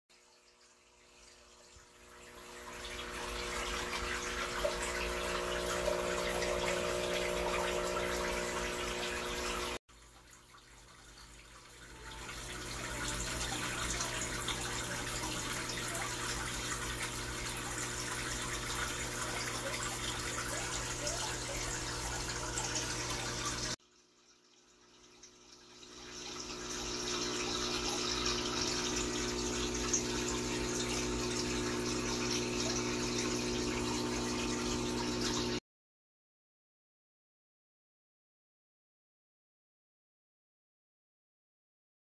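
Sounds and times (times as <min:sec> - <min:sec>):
aquarium filter motor hum: 0:00.8 - 0:23.8, 0:24.4 - 0:35.6.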